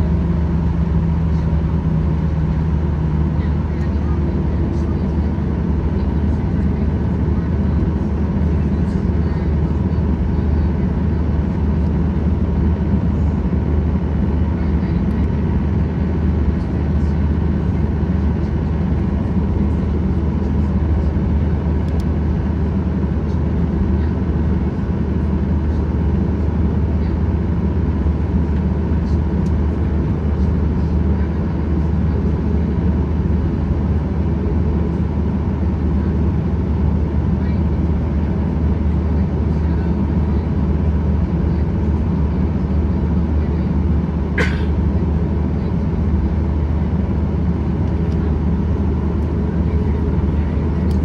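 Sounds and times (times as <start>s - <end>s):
airliner engine drone: 0.0s - 51.0s
low cabin rumble: 0.0s - 51.0s.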